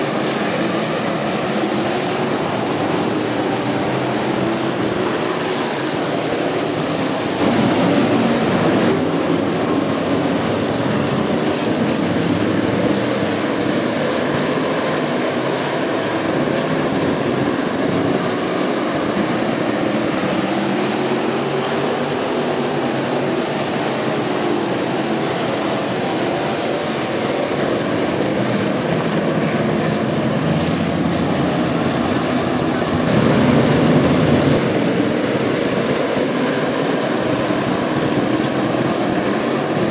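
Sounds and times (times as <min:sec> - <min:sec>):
racing car engines droning: 0:00.0 - 0:39.9.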